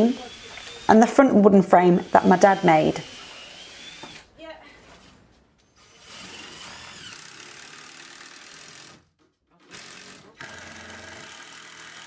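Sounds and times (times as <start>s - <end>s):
cordless drill driving screws: 0.0s - 4.3s, 4.9s - 9.0s, 9.7s - 12.0s.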